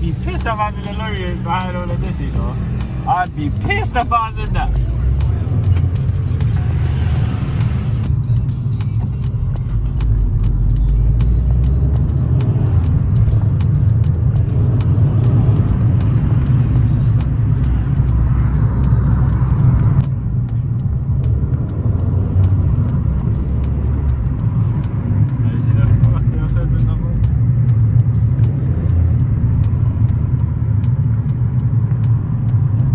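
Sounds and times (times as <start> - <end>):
car engine and road rumble: 0.0 - 32.9.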